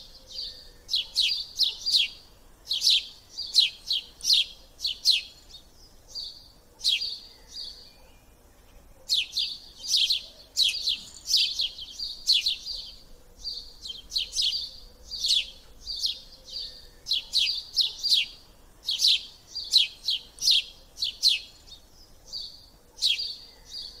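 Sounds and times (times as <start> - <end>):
small bird chirping: 0.0 - 24.0.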